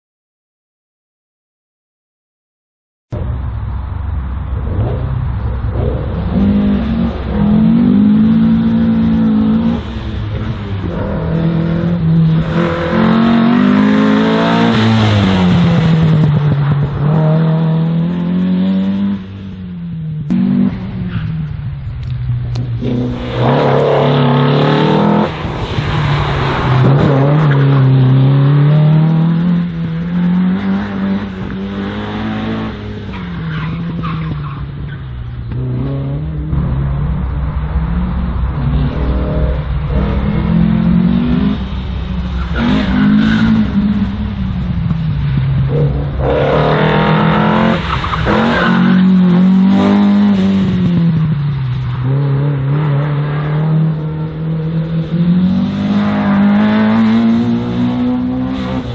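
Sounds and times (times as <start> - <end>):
race car engine revving: 3.2 - 58.9.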